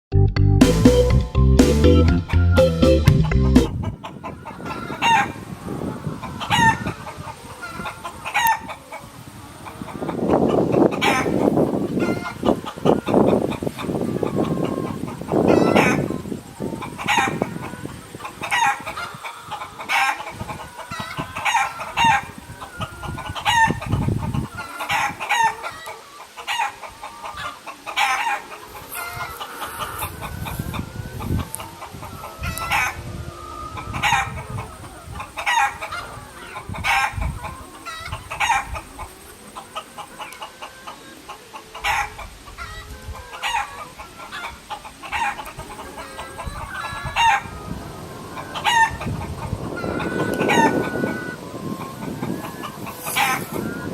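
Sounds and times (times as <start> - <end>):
chickens clucking: 0.7 - 53.9.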